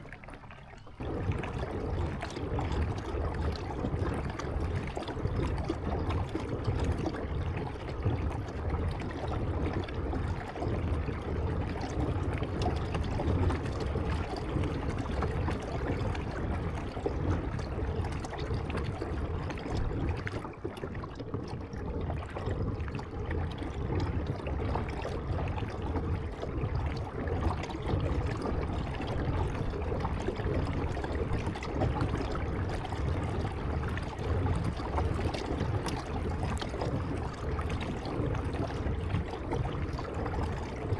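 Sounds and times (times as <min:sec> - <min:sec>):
water lapping around kayak: 0:00.0 - 0:40.9.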